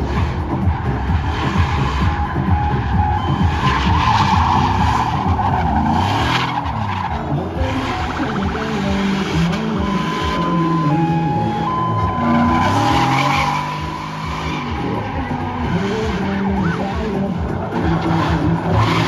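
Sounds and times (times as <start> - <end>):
truck engine revving: 0.0 - 19.0
tyres squealing on asphalt: 0.0 - 19.0.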